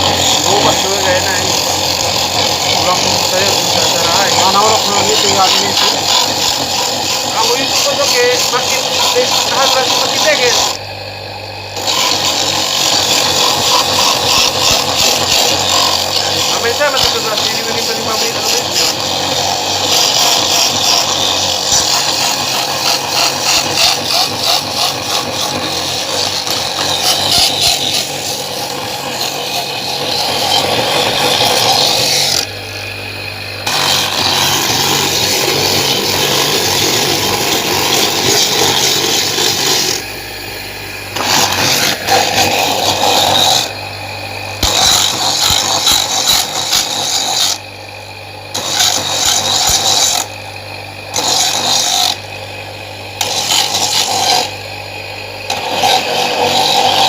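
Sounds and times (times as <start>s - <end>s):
grater scraping coconut: 0.0s - 10.8s, 11.8s - 32.5s, 33.6s - 40.1s, 41.2s - 43.9s, 44.6s - 47.7s, 48.5s - 50.4s, 51.0s - 52.3s, 53.2s - 54.6s, 55.5s - 57.0s
motor humming: 0.0s - 57.0s.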